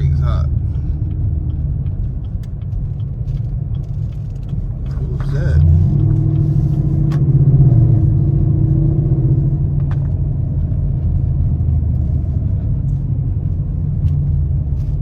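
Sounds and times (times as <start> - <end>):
car engine drone in cabin: 0.0 - 15.0.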